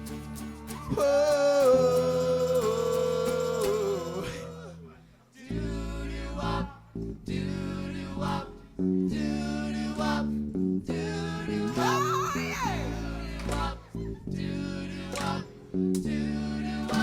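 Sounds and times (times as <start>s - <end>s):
guitar and bass chords: 0.0s - 17.0s.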